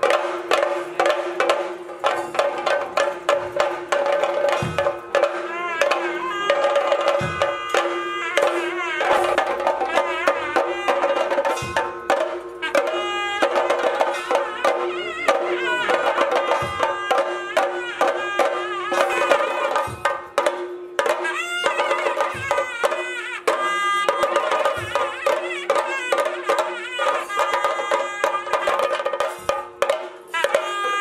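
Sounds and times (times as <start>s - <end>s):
drum ensemble fast rhythm: 0.0s - 31.0s
hand cymbals: 0.0s - 31.0s.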